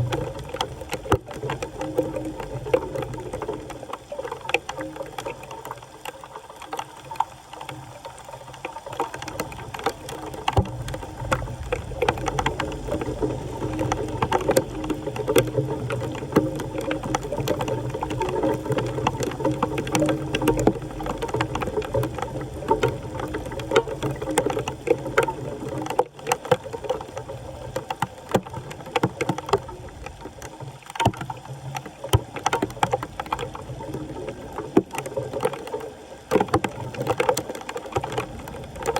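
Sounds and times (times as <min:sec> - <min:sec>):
water sloshing and splashing: 0:00.0 - 0:38.9.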